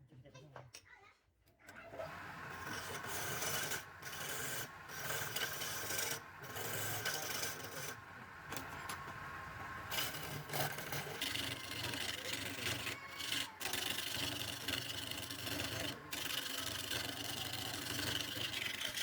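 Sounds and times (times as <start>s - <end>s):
lathe humming: 1.8s - 19.0s
wood being scraped on a lathe: 1.8s - 19.0s.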